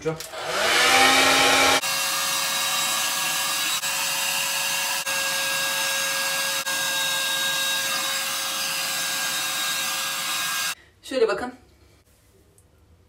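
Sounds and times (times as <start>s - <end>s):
hair dryer running: 0.2s - 10.8s.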